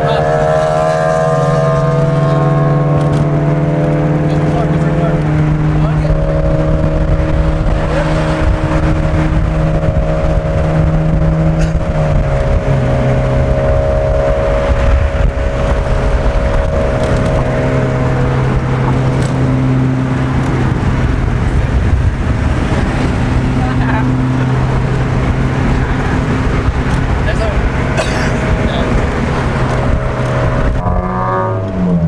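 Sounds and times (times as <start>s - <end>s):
car engine droning: 0.0s - 32.0s
wind and road noise: 0.0s - 32.0s.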